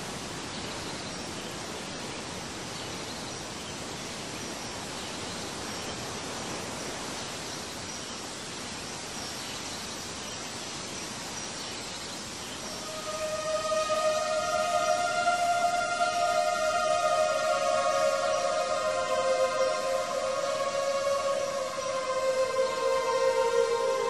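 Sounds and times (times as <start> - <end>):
steady rushing nature ambience: 0.0 - 24.0.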